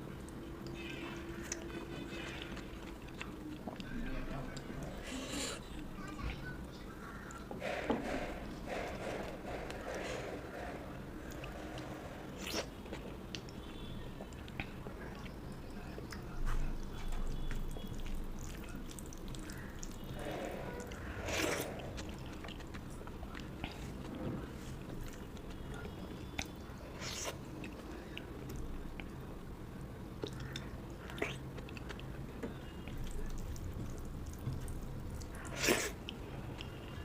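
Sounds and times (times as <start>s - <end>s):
chewing and wet mouth noises: 0.1s - 7.6s, 8.7s - 37.0s.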